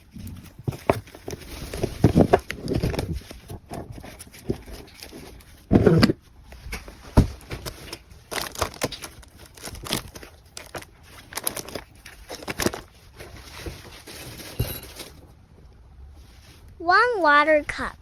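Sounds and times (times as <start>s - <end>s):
plastic packaging rustling: 0.0s - 5.7s, 6.4s - 15.3s.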